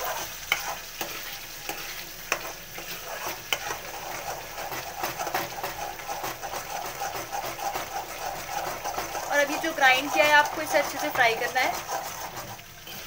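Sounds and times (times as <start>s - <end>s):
metal spoon scraping pan: 0.0s - 13.0s
paste sizzling in hot oil: 0.0s - 13.0s.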